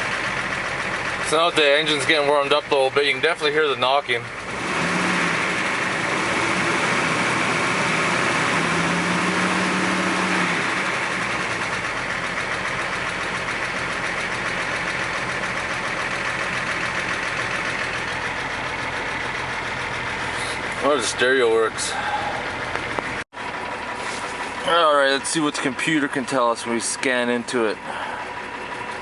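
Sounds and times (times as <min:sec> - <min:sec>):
engine idling with regular knock: 0:00.0 - 0:07.8, 0:10.2 - 0:29.0.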